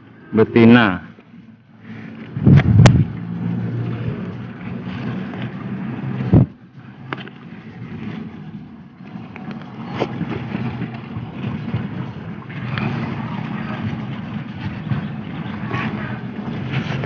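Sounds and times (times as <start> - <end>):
engine-like hum: 0.0 - 17.0.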